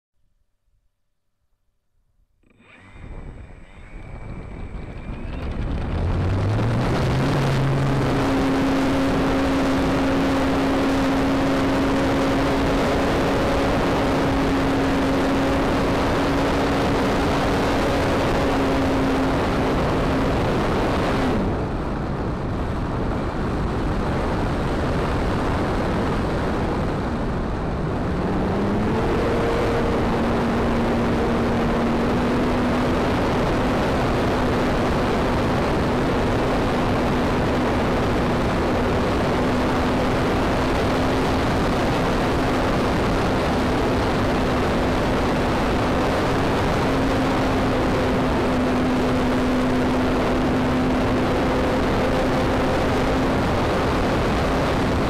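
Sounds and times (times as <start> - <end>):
model airplane motor and propeller: 2.4 - 21.7, 23.9 - 55.0
wind rush on microphone: 2.6 - 55.0.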